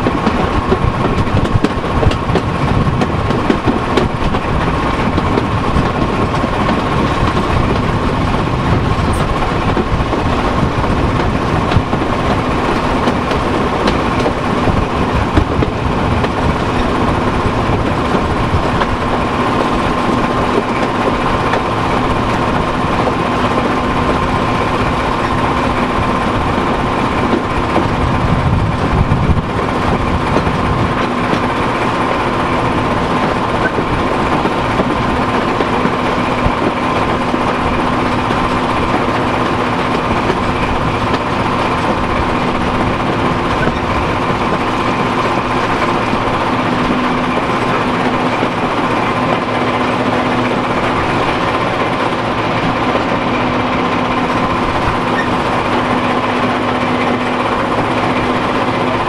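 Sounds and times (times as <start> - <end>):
diesel engine drone and whine: 0.0 - 59.0
wheels rumbling on rails: 0.0 - 59.0.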